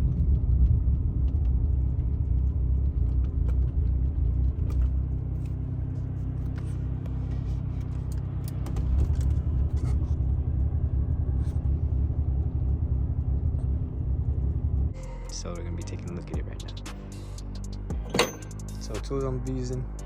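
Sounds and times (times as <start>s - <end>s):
car rumbling: 0.0s - 20.0s.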